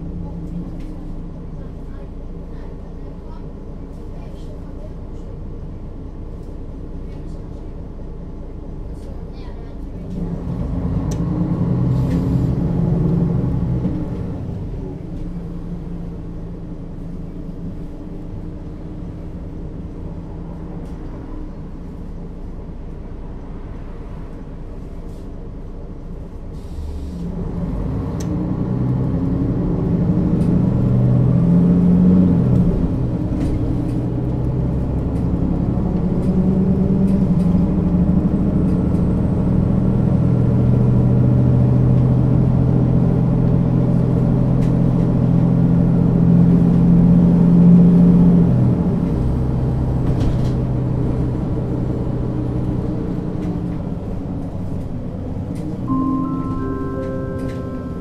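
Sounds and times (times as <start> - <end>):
bus engine: 0.0 - 58.0.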